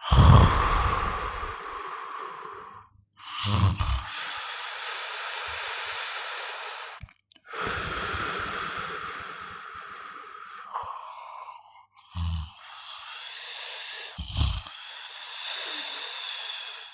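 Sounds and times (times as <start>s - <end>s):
breathy breathing: 0.0s - 16.9s
person snoring: 0.0s - 16.9s.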